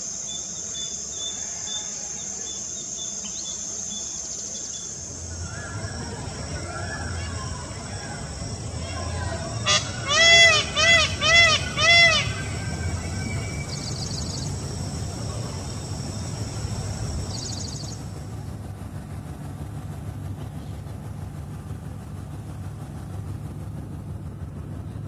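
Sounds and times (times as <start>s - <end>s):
boat engine rumbling: 3.4s - 25.0s
water noise: 4.8s - 25.0s.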